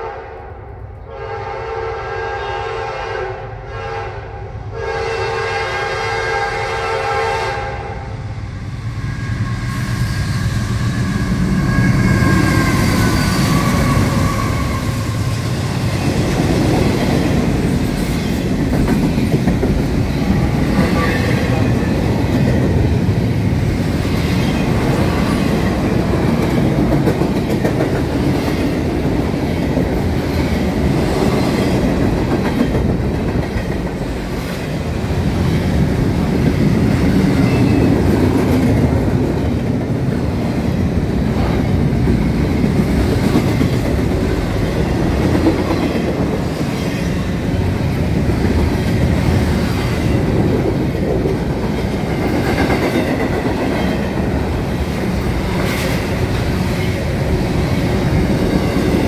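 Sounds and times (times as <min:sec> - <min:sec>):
freight train wheels rumbling: 0:02.9 - 0:59.0.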